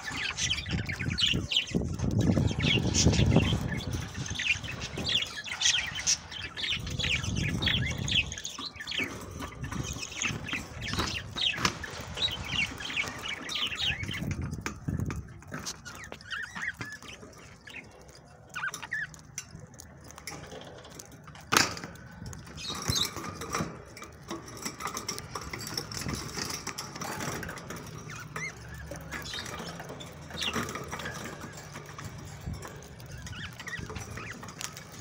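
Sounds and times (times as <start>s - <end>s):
budgerigars chirping: 0.0s - 20.3s, 22.4s - 35.0s
pecking ticks: 0.0s - 35.0s.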